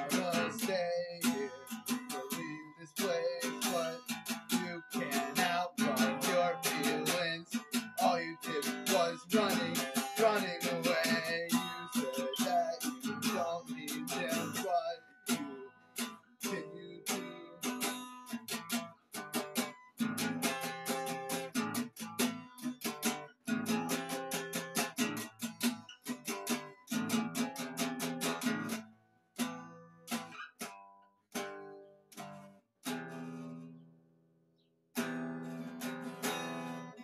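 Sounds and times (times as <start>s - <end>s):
acoustic guitar strumming: 0.0s - 34.2s, 34.9s - 37.0s.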